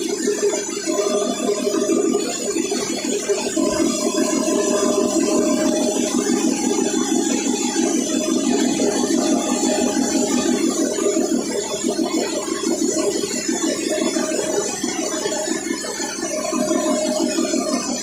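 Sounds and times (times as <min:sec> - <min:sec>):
machinery pulsing rattle: 0:00.0 - 0:18.0.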